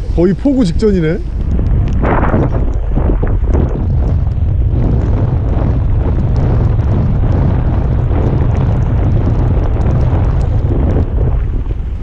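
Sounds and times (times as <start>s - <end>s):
wind buffeting microphone: 0.0s - 12.0s
raindrops ticking on camera: 1.4s - 12.0s.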